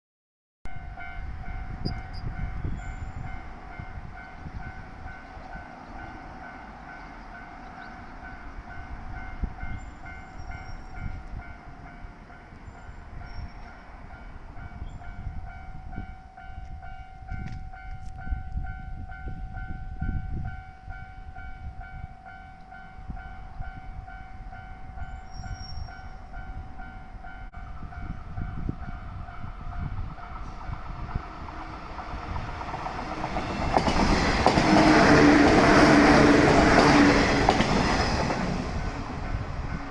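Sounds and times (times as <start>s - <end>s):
wind buffeting microphone: 0.8s - 39.9s.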